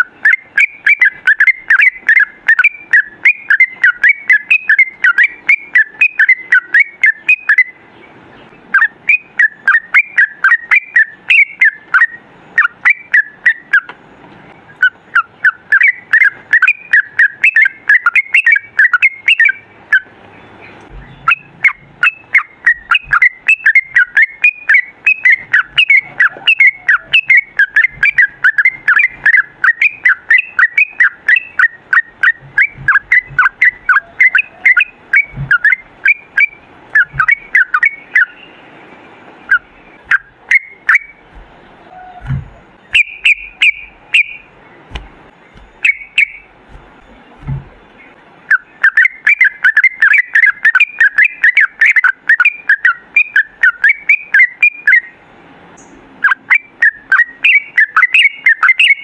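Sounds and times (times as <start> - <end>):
bulbul singing chattering notes: 0.0 - 59.0.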